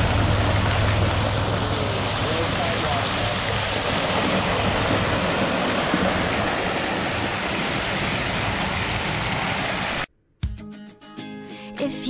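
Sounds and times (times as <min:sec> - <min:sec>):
small waterfall splashing into pool: 0:00.0 - 0:10.1.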